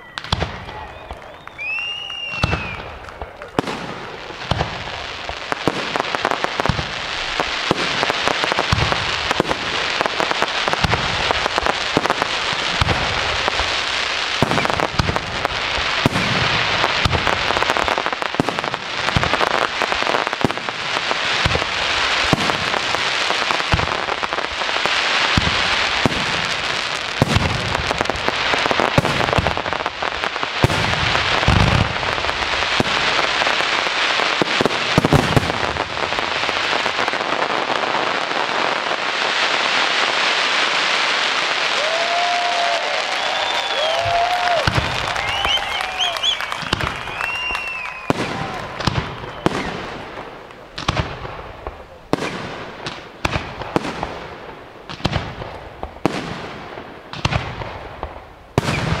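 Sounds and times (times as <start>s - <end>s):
firework booms: 0.0s - 59.0s
firework crackle: 0.0s - 59.0s.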